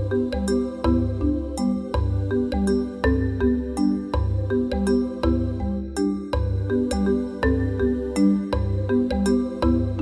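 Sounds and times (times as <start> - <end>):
music with bright notes and bass: 0.0 - 10.0.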